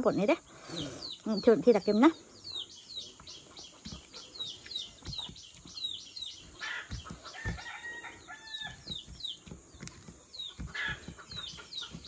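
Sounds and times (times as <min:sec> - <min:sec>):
chickens peeping: 0:00.1 - 0:12.0.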